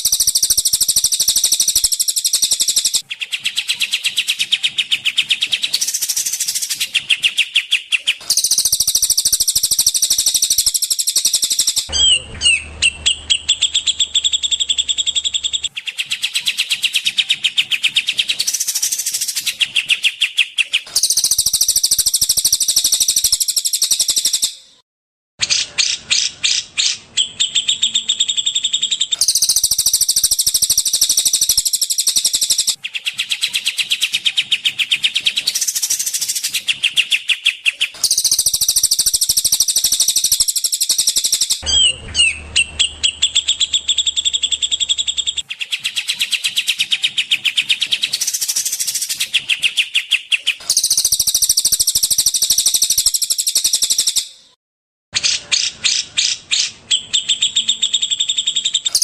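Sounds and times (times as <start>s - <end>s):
songbirds trilling: 0.0s - 24.6s, 25.6s - 54.2s, 55.2s - 59.0s.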